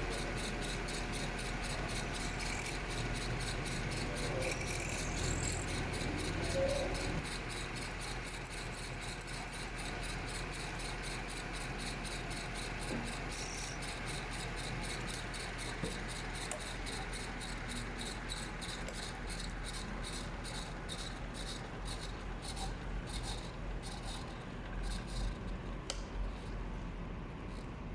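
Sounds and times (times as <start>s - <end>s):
fast high-pitched pulsing: 0.0s - 25.4s
machine humming: 0.0s - 26.5s.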